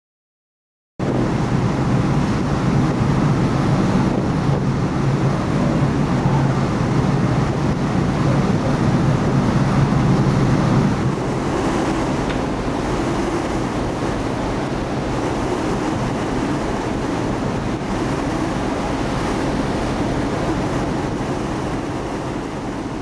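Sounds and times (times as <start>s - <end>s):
low engine drone: 1.0s - 23.0s
rush of the sea: 1.0s - 23.0s
wind buffeting microphone: 1.0s - 23.0s.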